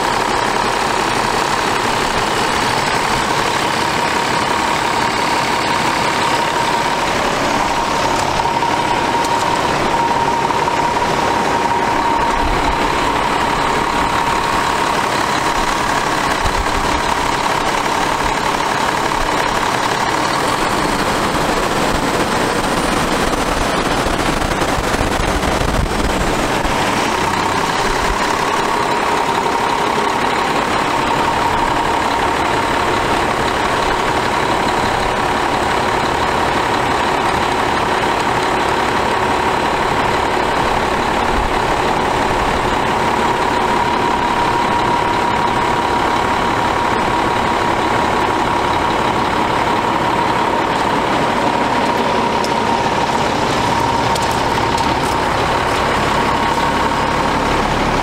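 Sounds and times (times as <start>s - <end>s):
truck diesel engine idling: 0.0s - 58.0s.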